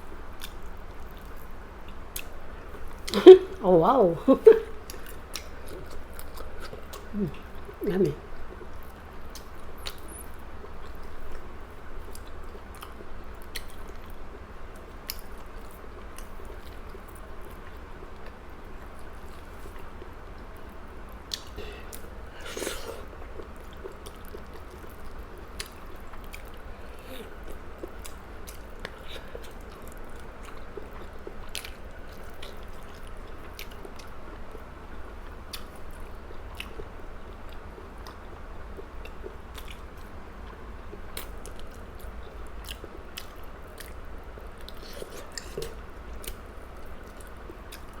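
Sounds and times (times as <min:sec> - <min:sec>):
person chewing food: 0:04.4 - 0:07.8, 0:08.4 - 0:14.2, 0:15.0 - 0:34.6, 0:35.2 - 0:48.0.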